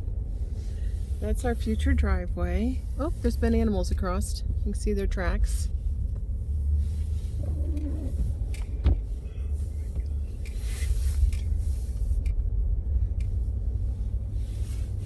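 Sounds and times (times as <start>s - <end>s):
truck cab rumble: 0.0s - 15.0s.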